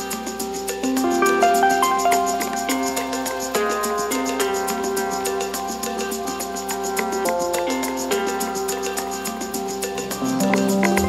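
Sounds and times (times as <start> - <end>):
held instrument notes: 0.0 - 11.0
steady percussion beat: 0.0 - 11.0.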